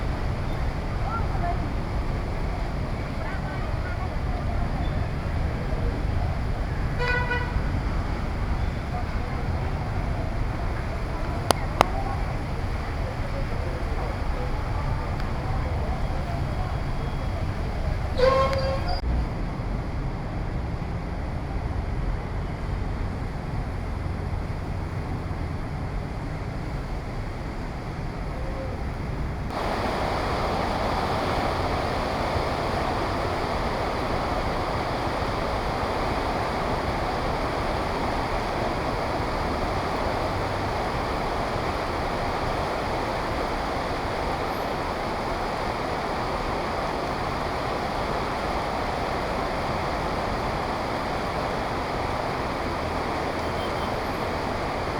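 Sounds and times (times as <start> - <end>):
heavy rain pouring: 0.0 - 19.0, 23.4 - 54.9
wind: 0.0 - 54.9.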